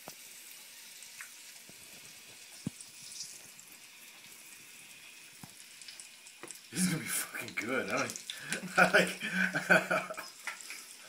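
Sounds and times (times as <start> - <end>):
hot oil bubbling and sizzling: 0.0 - 11.0.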